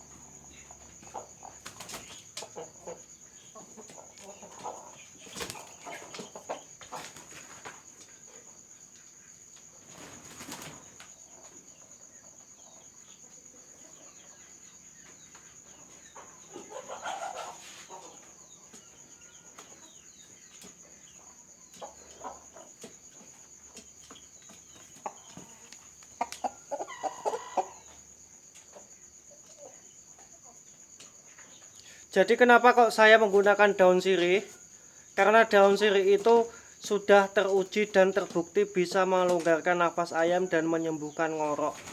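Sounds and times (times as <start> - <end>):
chickens clucking: 0.0 - 41.9
crickets chirring: 0.0 - 41.9.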